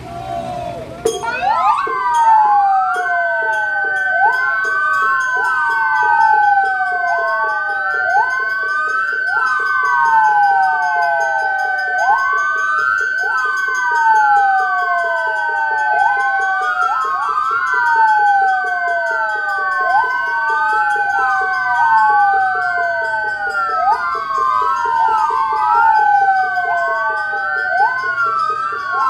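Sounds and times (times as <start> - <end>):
fast low pulsing siren: 0.0 - 29.0
steady high siren tone: 0.0 - 29.0
wailing sirens: 0.0 - 29.0.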